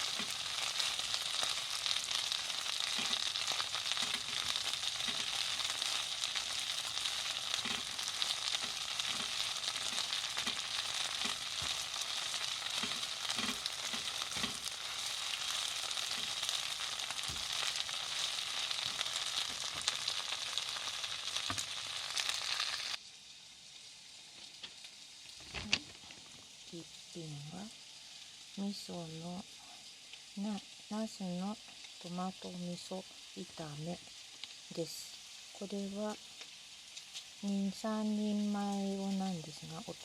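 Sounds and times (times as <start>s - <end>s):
food sizzling in a pan: 0.0s - 40.0s.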